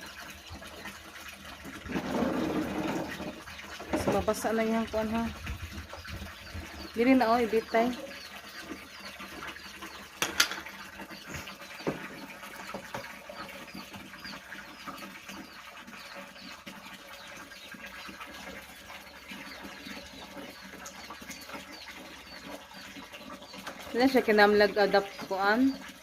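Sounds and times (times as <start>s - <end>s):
small birds chirping: 4.0s - 26.0s.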